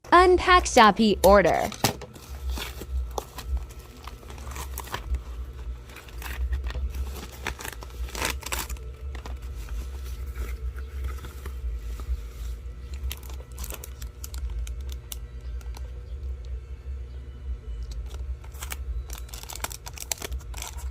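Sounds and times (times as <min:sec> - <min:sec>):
low hum: 0:00.0 - 0:20.9
packaging crinkling and tearing: 0:01.4 - 0:16.6, 0:17.8 - 0:20.9.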